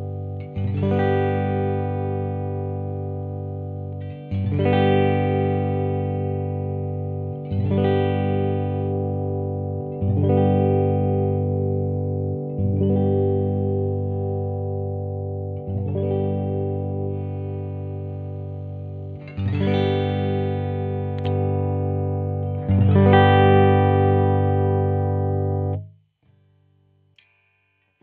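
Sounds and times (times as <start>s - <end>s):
clean electric guitar strumming chords: 0.0s - 25.9s.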